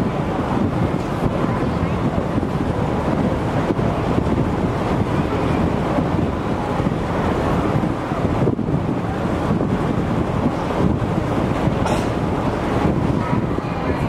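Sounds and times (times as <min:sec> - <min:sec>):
rushing background noise of hall: 0:00.0 - 0:14.0.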